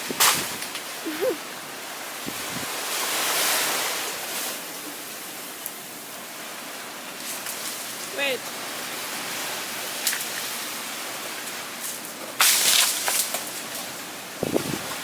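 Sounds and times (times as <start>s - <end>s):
ocean surf washing on beach: 0.0s - 15.0s.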